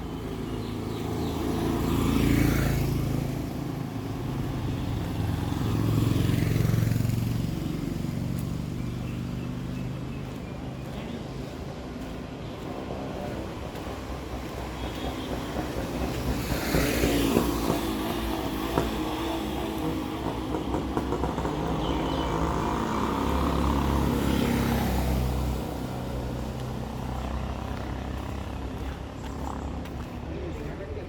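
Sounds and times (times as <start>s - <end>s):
town traffic noise: 0.0s - 31.0s
vehicles driving past: 0.0s - 31.0s.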